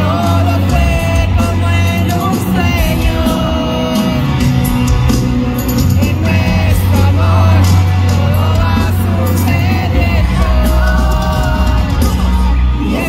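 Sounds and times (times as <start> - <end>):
lead vocals: 0.0 - 13.0
live pop-rock band playing: 0.0 - 13.0.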